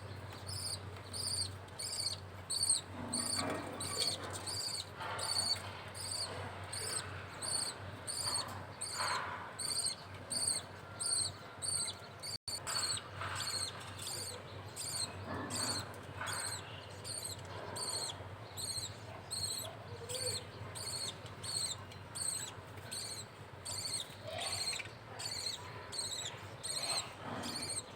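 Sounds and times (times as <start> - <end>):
budgerigar chick cheeping: 0.5 - 27.9.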